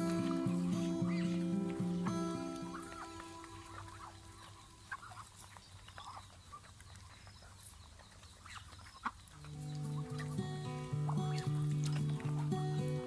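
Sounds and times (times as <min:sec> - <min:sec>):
poultry calling: 0:00.0 - 0:13.0.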